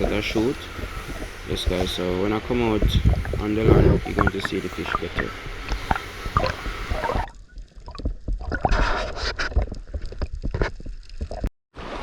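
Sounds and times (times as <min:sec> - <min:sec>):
water splashing around a swimmer: 0:00.0 - 0:11.5.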